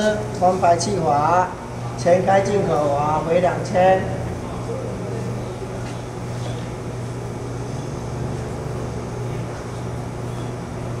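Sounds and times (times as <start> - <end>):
low hum of plant machinery: 0.0 - 11.0.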